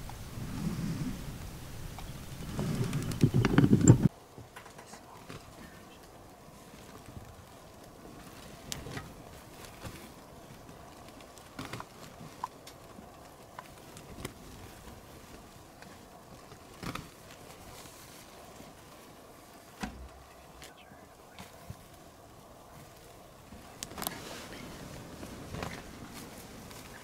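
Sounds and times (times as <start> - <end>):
faint outdoor ambience: 0.0 - 27.0.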